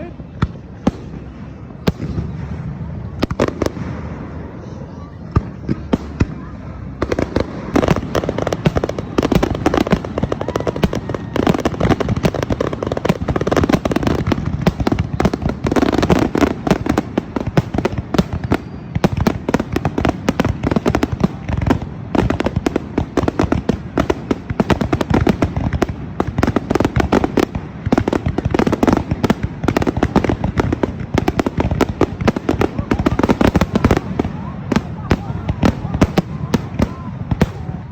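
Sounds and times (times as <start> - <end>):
firecrackers crackling: 0.0 - 37.9.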